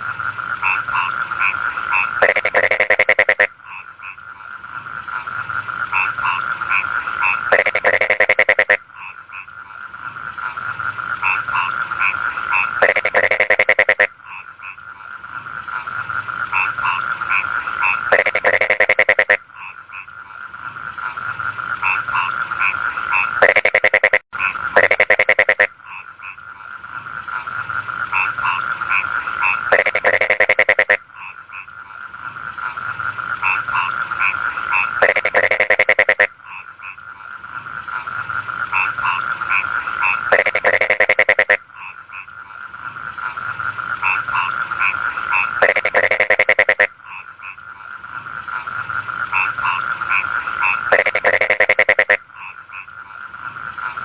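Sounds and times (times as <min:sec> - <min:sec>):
frog rattling croak: 0:00.0 - 0:54.0
frogs trilling and chirping: 0:00.0 - 0:54.0.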